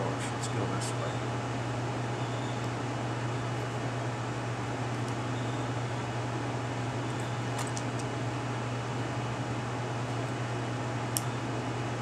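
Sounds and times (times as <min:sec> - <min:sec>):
machine fan hum and hiss: 0:00.0 - 0:12.0.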